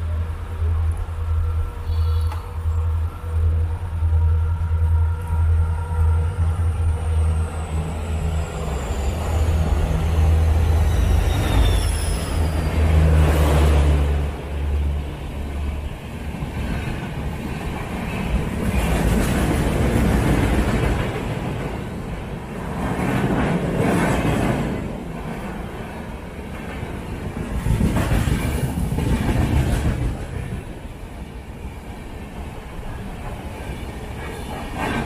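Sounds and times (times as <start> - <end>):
train engine hum: 0.0 - 35.0.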